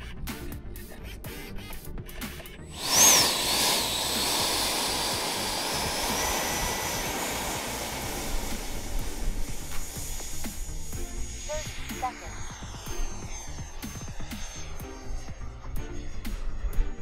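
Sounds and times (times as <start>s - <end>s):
electric ducted fan whine: 2.7s - 17.0s.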